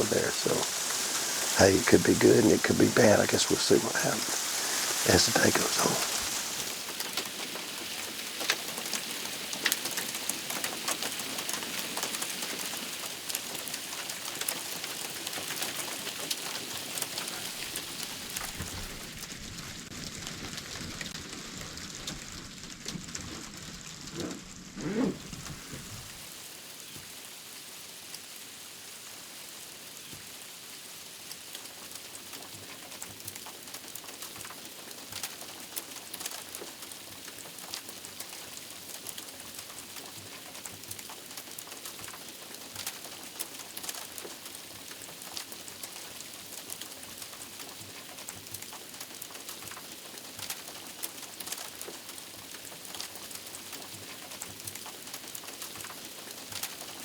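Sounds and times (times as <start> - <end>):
freezing rain pattering: 0.0 - 57.0.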